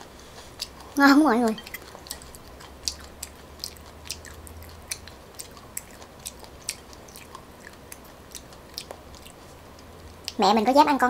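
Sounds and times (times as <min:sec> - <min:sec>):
chewing with mouth clicks: 0:00.0 - 0:10.5.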